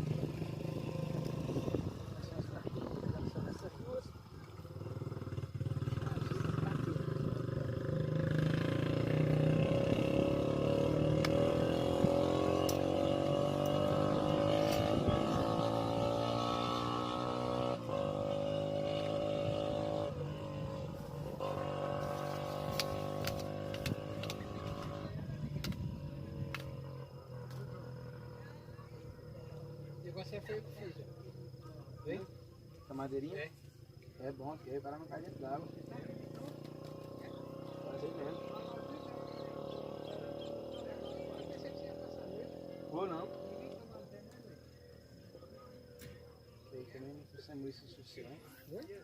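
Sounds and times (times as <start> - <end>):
vehicle engine passing: 0.0 - 32.4, 34.2 - 45.9.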